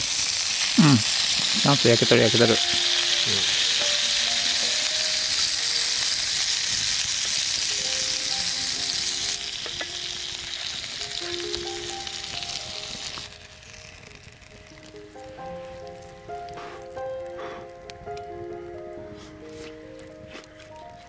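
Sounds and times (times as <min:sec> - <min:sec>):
meat sizzling in a frying pan: 0:00.0 - 0:18.2
soft background music: 0:01.6 - 0:21.0.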